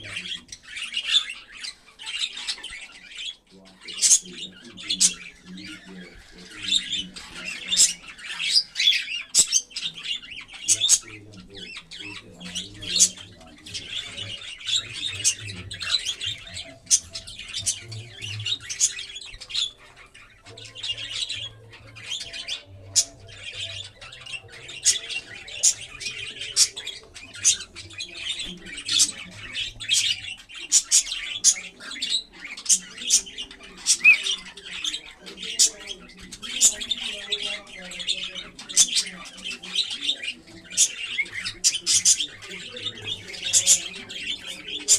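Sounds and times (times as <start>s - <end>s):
cockatiels chirping and squawking: 0.0s - 44.9s.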